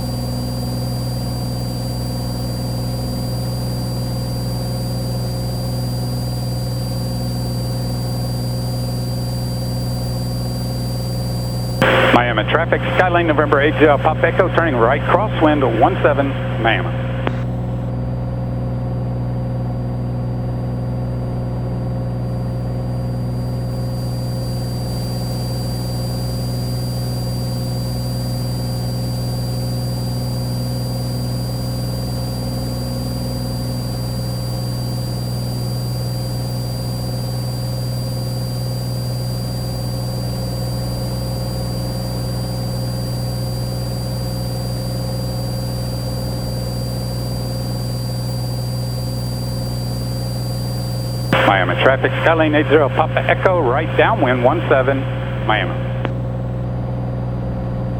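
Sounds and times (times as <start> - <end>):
faint high whine: 0.0 - 17.9, 20.6 - 56.7
aircraft engine drone in cabin: 0.0 - 57.9.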